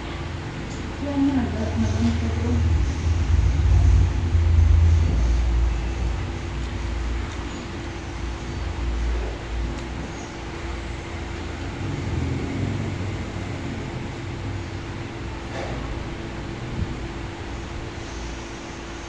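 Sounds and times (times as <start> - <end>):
mechanical hum and rumble: 0.0 - 19.0.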